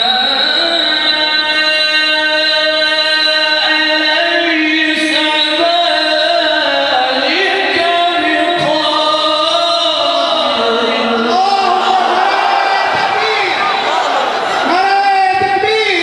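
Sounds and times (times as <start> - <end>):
man chanting into a microphone: 0.0 - 13.9, 14.6 - 16.0.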